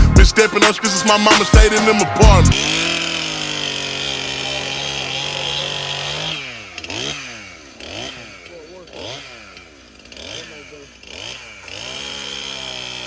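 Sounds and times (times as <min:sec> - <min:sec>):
chainsaw revving: 0:00.4 - 0:13.0.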